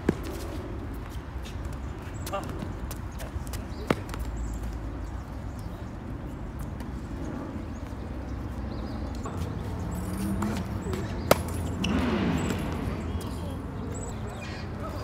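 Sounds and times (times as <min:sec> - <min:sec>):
low outdoor background: 0:00.0 - 0:15.0.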